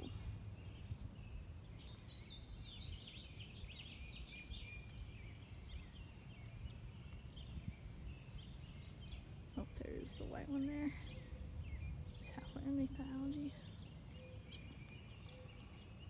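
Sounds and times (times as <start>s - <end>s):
birds chirping and warbling: 0.0s - 16.0s.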